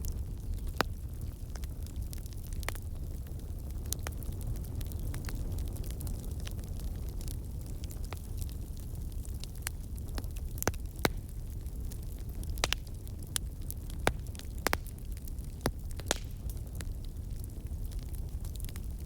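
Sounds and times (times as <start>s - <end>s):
burning wood popping and snapping: 0.0s - 19.0s
low rumble of fire: 0.0s - 19.0s.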